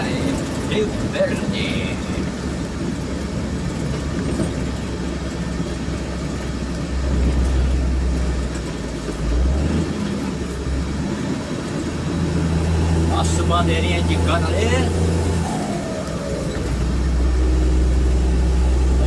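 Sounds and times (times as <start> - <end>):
vehicle cabin engine and road hum: 0.0 - 19.0.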